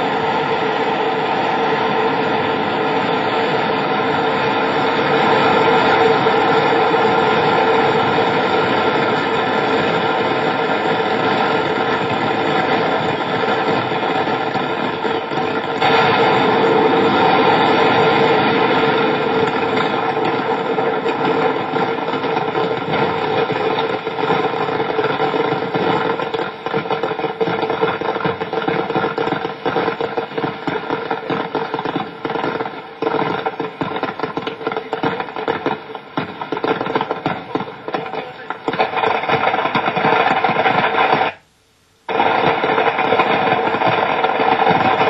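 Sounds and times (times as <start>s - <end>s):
explosion roar: 0.0s - 41.4s, 42.1s - 45.0s
sharp crackling: 4.3s - 41.5s, 42.1s - 45.0s.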